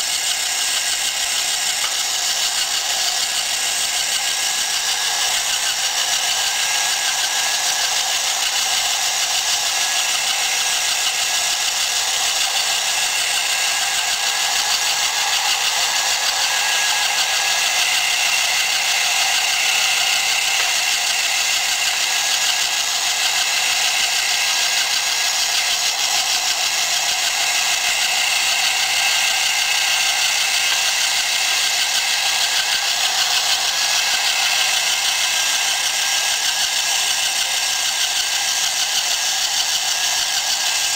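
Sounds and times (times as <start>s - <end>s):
small electric motor whirring: 0.0s - 40.9s.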